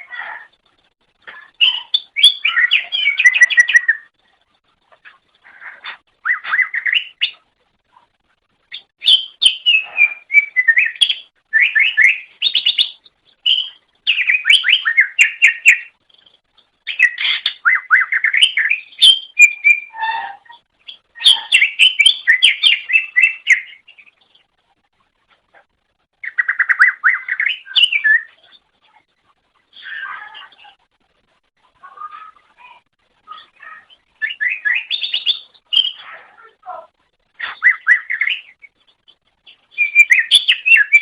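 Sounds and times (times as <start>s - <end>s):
bird singing chirps and trills: 1.3s - 4.2s, 5.0s - 7.4s, 8.6s - 24.5s, 26.2s - 30.8s, 31.8s - 41.0s.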